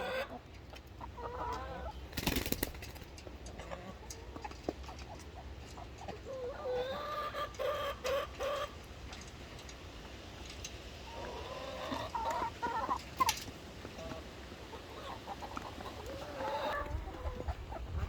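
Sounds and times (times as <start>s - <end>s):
chickens clucking: 0.0s - 9.8s, 10.8s - 18.0s.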